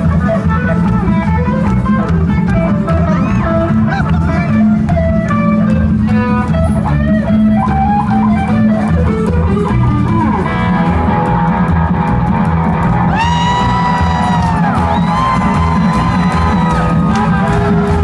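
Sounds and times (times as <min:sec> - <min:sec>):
bass guitar: 0:00.0 - 0:18.0
drums: 0:00.0 - 0:18.0
electric guitar lead: 0:00.0 - 0:18.0.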